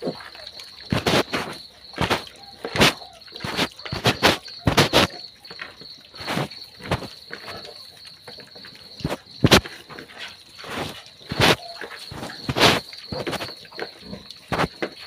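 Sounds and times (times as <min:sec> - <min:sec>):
crickets chirping: 0:00.0 - 0:15.0
piglets chewing and snuffling: 0:00.0 - 0:15.0.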